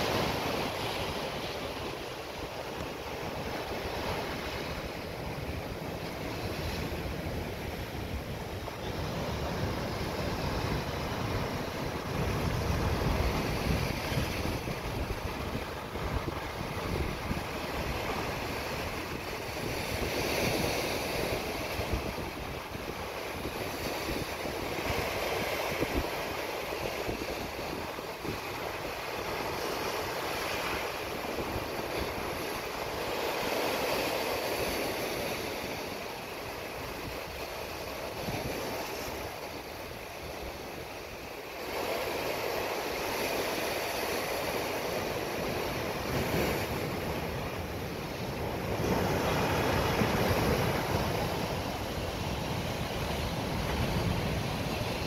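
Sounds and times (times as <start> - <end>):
surf breaking over rocks: 0.0 - 55.0.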